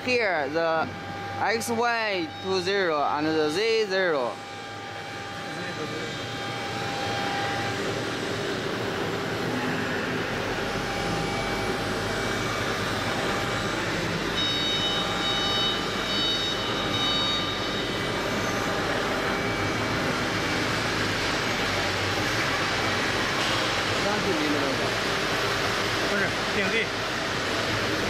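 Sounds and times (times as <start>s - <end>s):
high-pitched whining tones: 0.0s - 28.0s
machine running noise: 0.0s - 28.0s.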